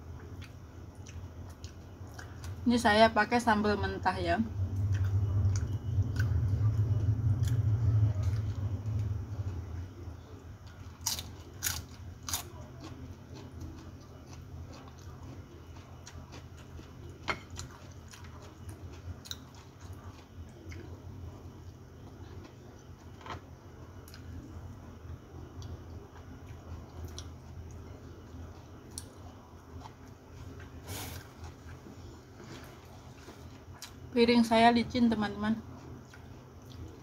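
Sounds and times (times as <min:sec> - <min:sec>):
steady low hum: 0:00.0 - 0:37.0
person chewing: 0:00.2 - 0:02.6, 0:04.7 - 0:23.4, 0:25.5 - 0:34.1, 0:35.7 - 0:37.0.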